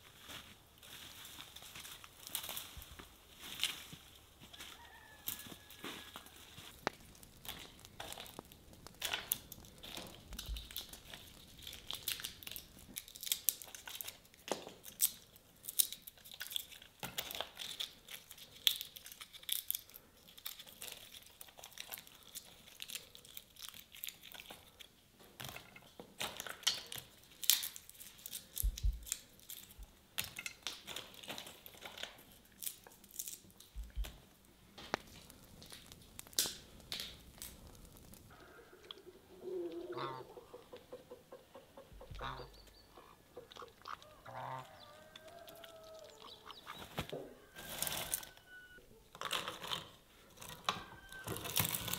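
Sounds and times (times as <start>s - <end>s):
crinkling handling noise: 0.0s - 39.1s, 44.0s - 51.9s.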